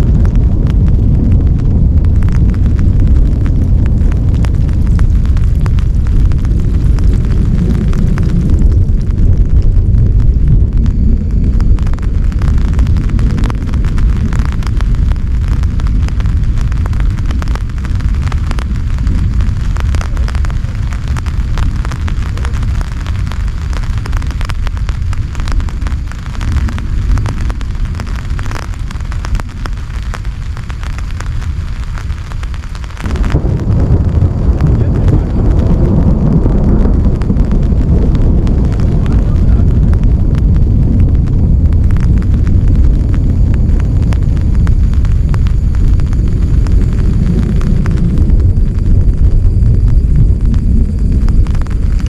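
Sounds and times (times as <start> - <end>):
heavy rain falling: 0.0 - 52.0
low rumble: 0.0 - 52.0.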